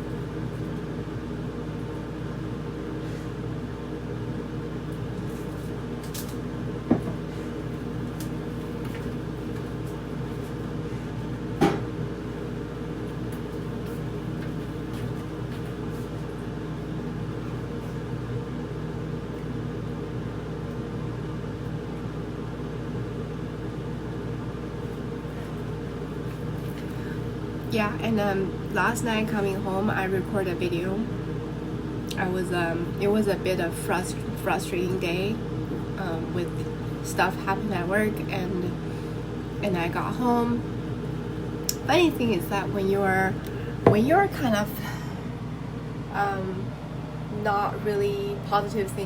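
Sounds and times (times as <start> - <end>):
mechanical hum: 0.0 - 49.0.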